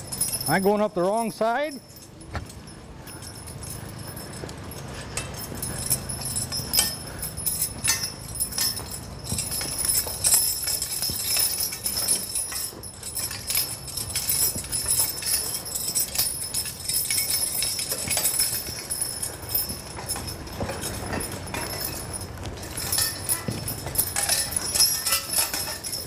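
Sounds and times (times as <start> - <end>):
harness chains jingling: 0.0 - 26.0.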